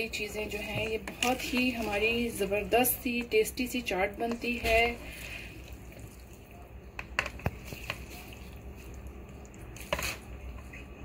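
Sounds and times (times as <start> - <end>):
wet food squelching: 0.3 - 3.4, 4.1 - 11.0.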